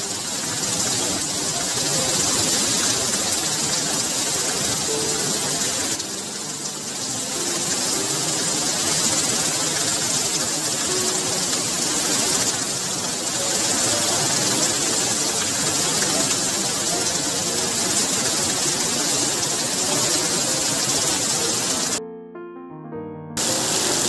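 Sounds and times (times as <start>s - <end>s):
heavy rain on foliage and roofs: 0.0s - 22.0s, 23.4s - 24.0s
water pouring off roof edge: 0.0s - 22.0s, 23.4s - 24.0s.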